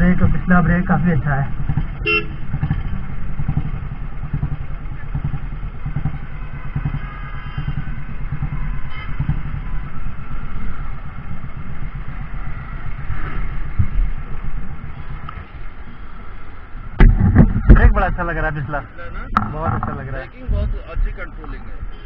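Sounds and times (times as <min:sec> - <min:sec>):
motorcycle engine running: 0:00.0 - 0:22.0
road noise: 0:00.0 - 0:22.0.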